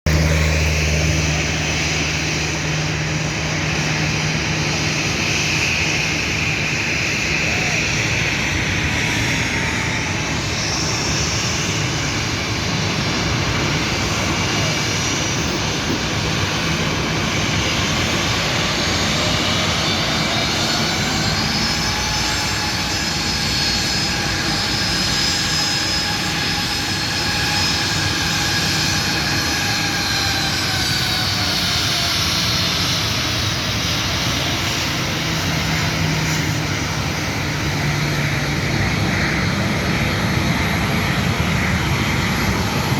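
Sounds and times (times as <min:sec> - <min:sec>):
jet engine whine: 0:00.0 - 0:42.9
jet engines roaring: 0:00.0 - 0:42.9.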